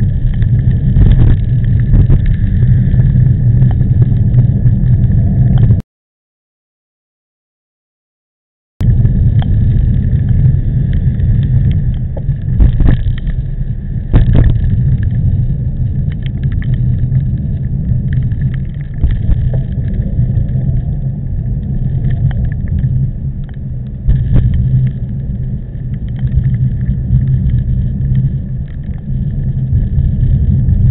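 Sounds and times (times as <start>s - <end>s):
wind buffeting microphone: 0.0s - 5.8s, 8.8s - 30.9s.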